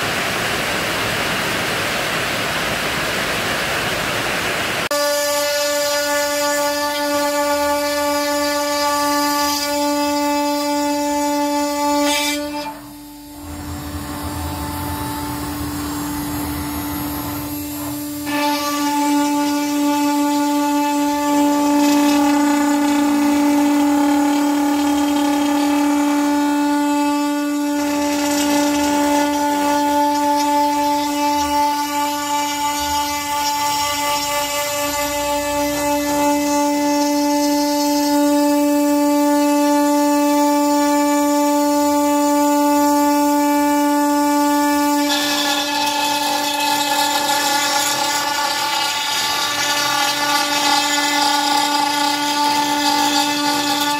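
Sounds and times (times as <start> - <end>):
cnc router spindle whine: 0.0 - 53.9
router bit cutting wood: 4.9 - 53.9.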